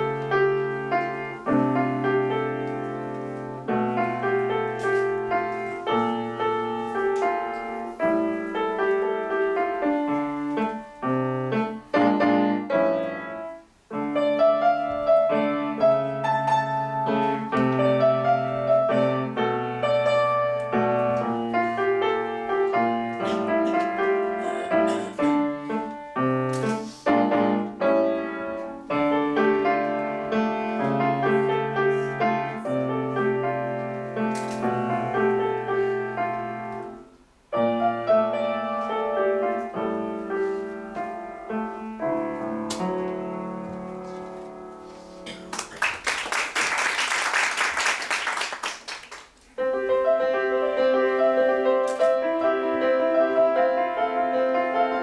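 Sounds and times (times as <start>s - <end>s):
solo grand piano playing: 0.0s - 46.5s, 49.5s - 55.0s.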